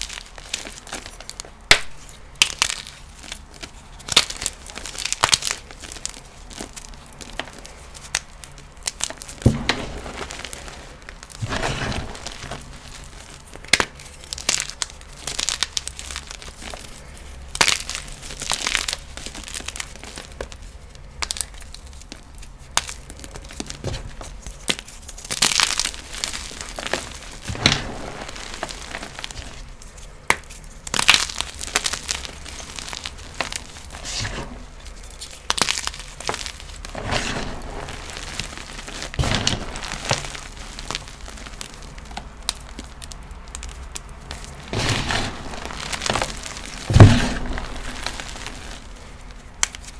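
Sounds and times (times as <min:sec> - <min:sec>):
chalk blocks crunching and crumbling: 0:00.0 - 0:49.9.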